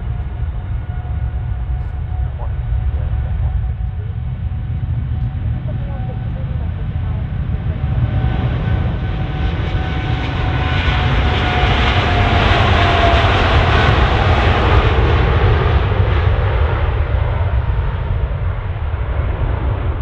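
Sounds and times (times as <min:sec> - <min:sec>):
jet engines at takeoff thrust: 0:00.0 - 0:20.0.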